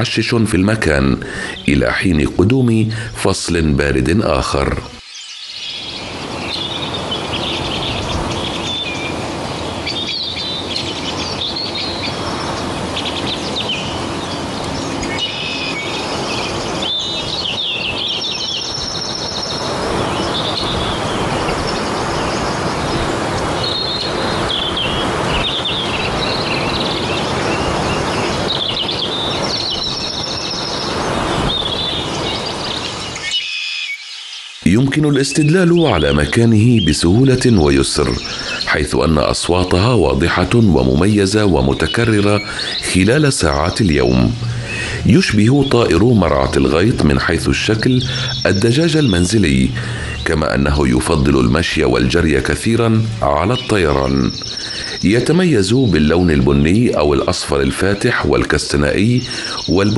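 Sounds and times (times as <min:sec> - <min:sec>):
birds chirping and whistling: 0:00.0 - 0:59.9
steady noisy background: 0:00.0 - 0:59.9.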